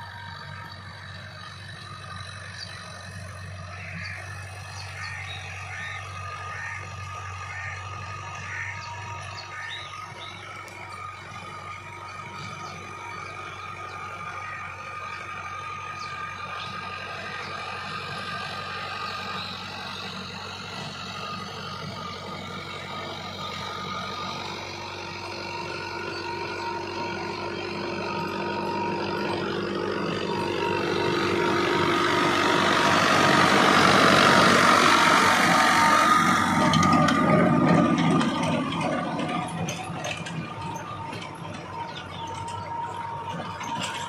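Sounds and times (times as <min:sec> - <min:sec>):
tractor diesel engine droning: 0:00.0 - 0:44.0.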